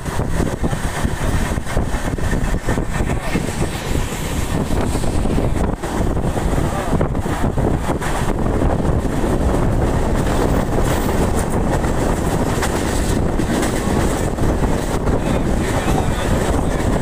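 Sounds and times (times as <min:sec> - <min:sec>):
train wheels rumbling on track: 0:00.0 - 0:17.0
wind on microphone: 0:00.0 - 0:17.0.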